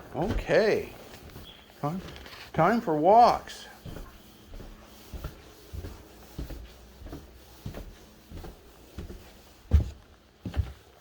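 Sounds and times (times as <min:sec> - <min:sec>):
footsteps on indoor floor: 0:00.0 - 0:11.0.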